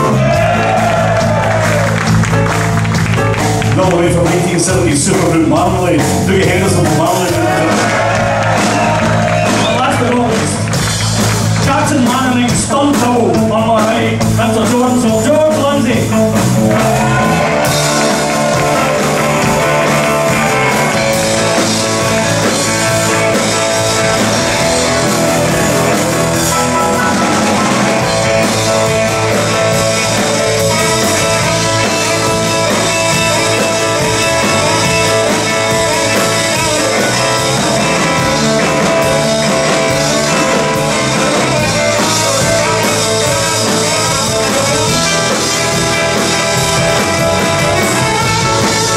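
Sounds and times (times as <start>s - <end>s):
drums: 0.0s - 48.9s
electric guitar: 0.0s - 48.9s
keyboard: 0.0s - 48.9s.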